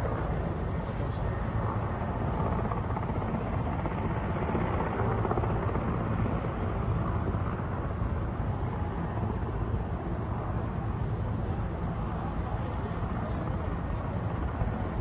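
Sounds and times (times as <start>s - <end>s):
helicopter rotor beat: 0.0s - 15.0s.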